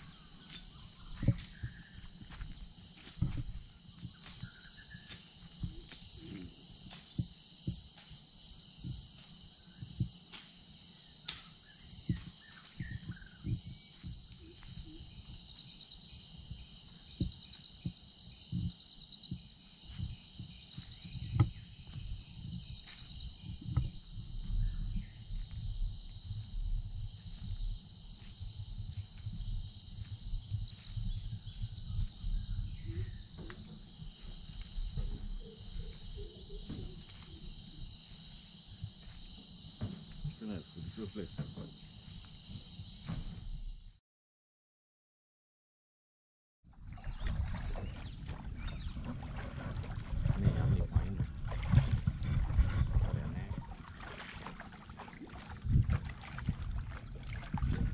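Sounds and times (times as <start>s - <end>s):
insect chorus: 0.0s - 44.0s, 46.9s - 57.9s.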